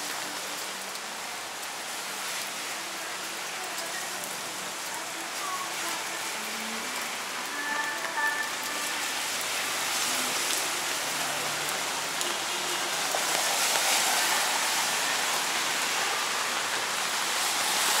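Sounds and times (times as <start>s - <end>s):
rain splashing on pavement: 0.0s - 18.0s.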